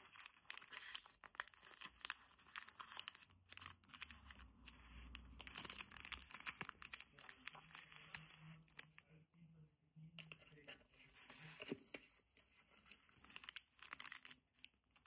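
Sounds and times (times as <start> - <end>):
paper crinkling and rustling: 0.0 - 9.2, 10.2 - 15.0.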